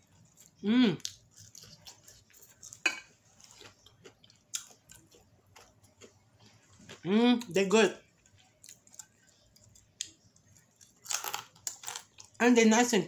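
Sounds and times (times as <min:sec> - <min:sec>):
person chewing food: 0:00.0 - 0:07.0, 0:08.1 - 0:12.4.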